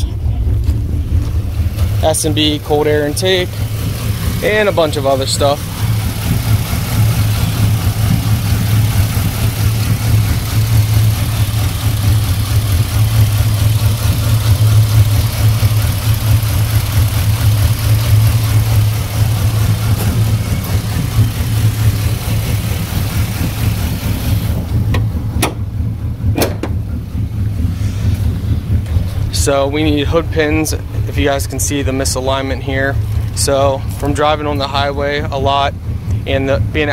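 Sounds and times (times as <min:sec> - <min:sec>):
car engine idling deep exhaust: 0:00.0 - 0:36.9.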